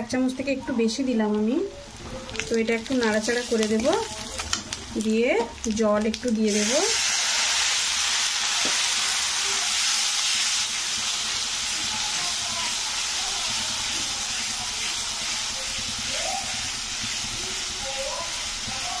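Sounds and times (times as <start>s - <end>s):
masala sizzling in a hot pan: 0.0s - 19.0s.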